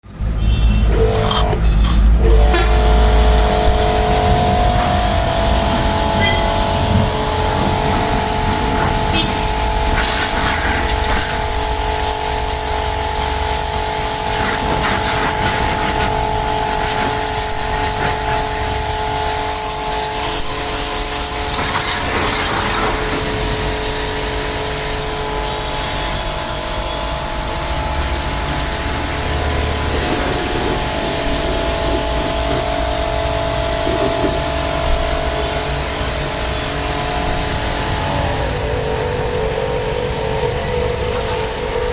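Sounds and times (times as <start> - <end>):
pressure washer motor humming: 0.1 - 41.9
spray hissing: 1.9 - 26.5, 27.4 - 41.9.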